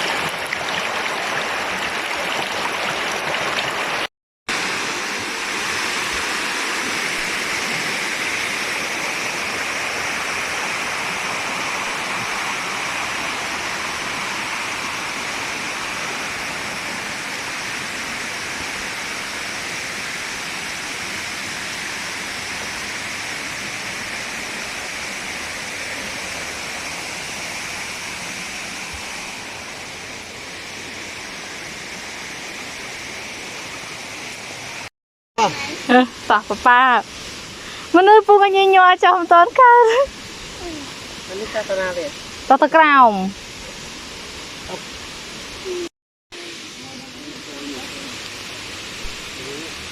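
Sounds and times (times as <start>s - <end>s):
running and falling water: 0.0s - 49.9s.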